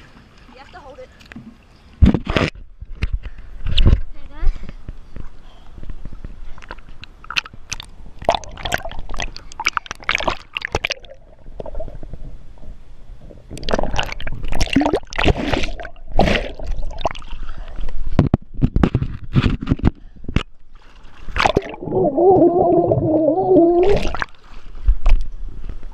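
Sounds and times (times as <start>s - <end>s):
water splashing and sloshing: 0.0s - 25.9s.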